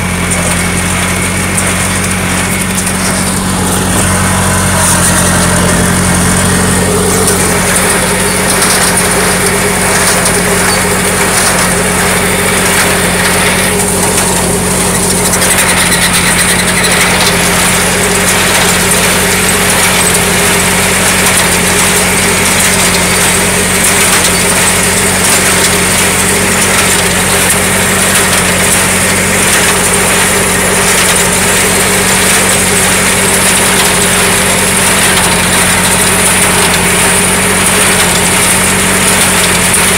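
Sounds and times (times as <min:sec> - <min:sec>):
baler working: 0:00.0 - 0:39.9
tractor engine running: 0:00.0 - 0:39.9.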